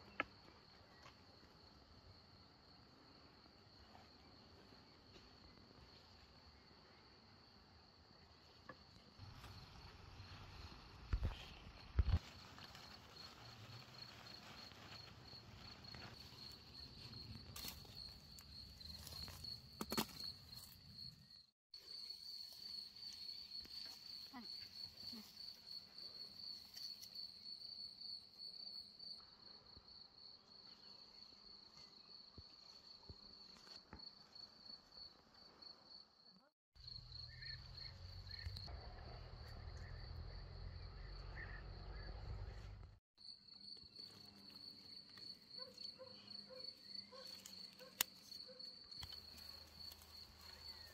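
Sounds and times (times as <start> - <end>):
crickets chirping: 0.0 - 42.2, 43.2 - 50.9.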